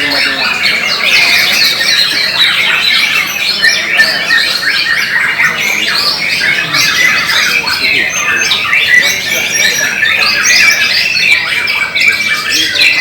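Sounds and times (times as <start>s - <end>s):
many birds singing whistled phrases: 0.0s - 13.0s.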